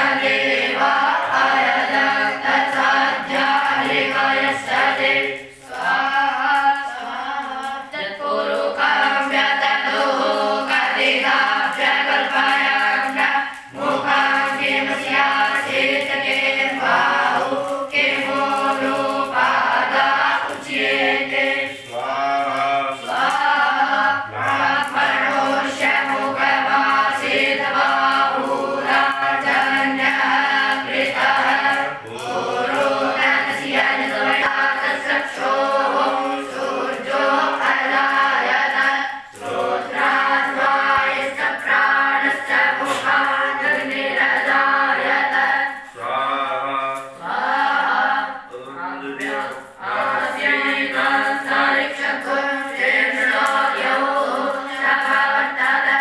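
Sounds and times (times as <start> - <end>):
group chanting in unison: 0.0 - 56.0.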